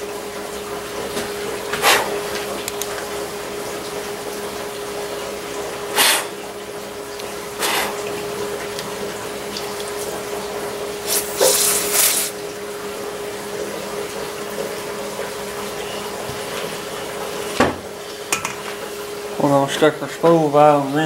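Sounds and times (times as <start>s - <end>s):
workshop hum and hiss: 0.0s - 21.0s.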